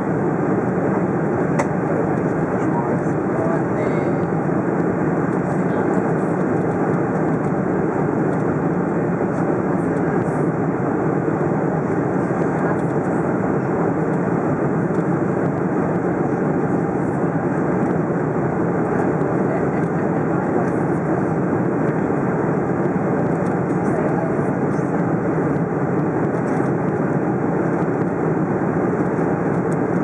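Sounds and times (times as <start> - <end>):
airplane cabin engine rush: 0.0 - 30.0.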